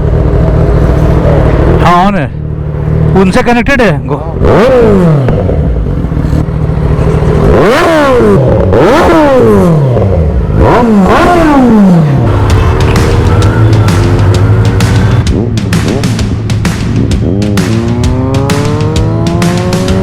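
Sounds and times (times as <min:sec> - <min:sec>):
motorcycle engine idling: 0:00.0 - 0:03.3, 0:04.2 - 0:08.7, 0:09.9 - 0:20.0
motorcycle engine revving: 0:00.0 - 0:03.4, 0:04.1 - 0:20.0.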